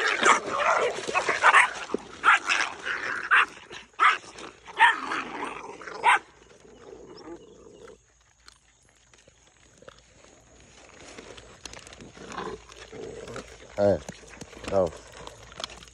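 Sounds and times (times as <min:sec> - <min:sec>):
puppies barking and snarling: 0:00.0 - 0:15.9.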